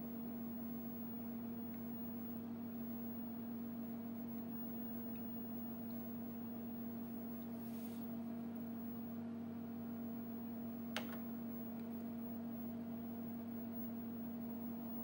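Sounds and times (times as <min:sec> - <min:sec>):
computer electrical hum: 0:00.0 - 0:15.0.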